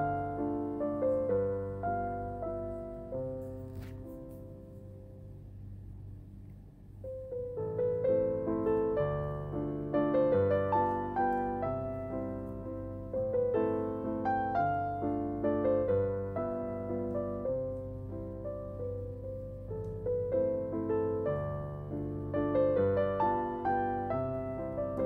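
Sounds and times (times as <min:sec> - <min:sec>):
slow piano music: 0:00.0 - 0:25.0.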